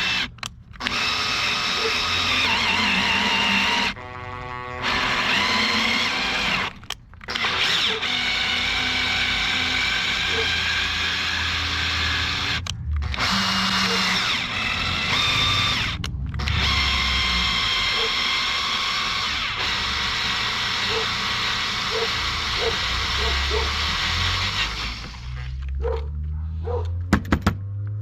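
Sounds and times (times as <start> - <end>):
electric drill running: 0.0 - 25.7.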